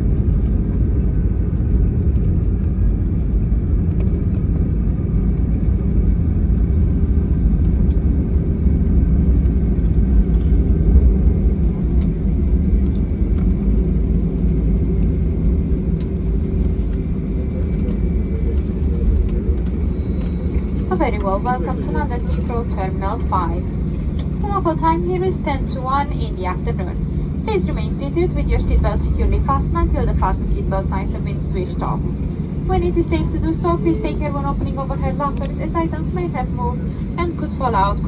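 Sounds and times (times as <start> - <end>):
airliner cabin rumble: 0.0 - 38.0.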